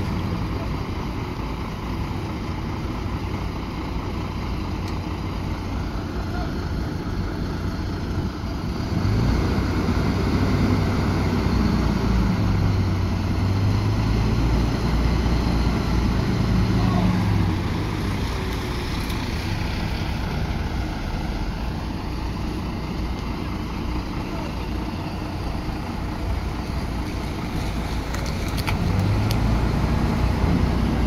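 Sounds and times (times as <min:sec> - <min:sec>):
heavy vehicle engine running: 0:00.0 - 0:31.0.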